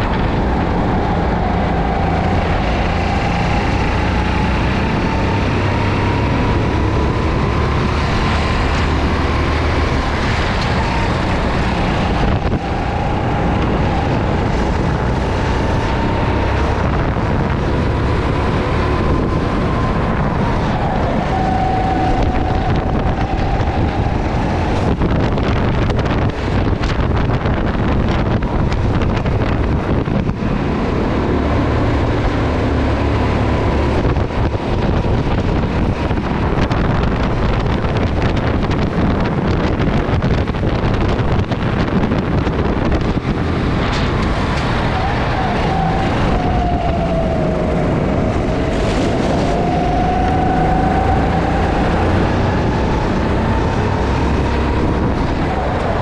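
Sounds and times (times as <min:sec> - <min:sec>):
kart engine running hard: 0:00.0 - 0:56.0
wind buffeting microphone: 0:00.0 - 0:56.0.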